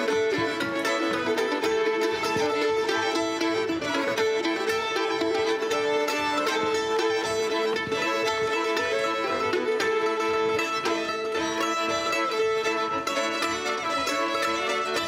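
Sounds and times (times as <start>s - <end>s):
fiddles playing melody: 0.0s - 15.0s
plucked-string accompaniment: 0.0s - 15.0s.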